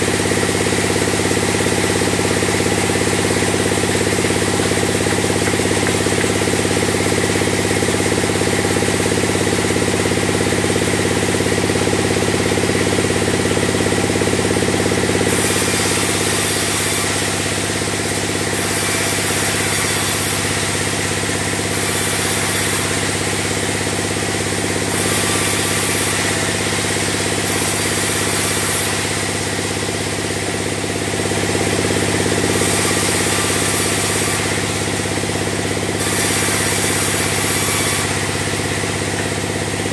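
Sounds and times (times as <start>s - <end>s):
band saw mechanical drone: 0.0s - 39.9s
blade hissing through timber: 0.0s - 39.9s.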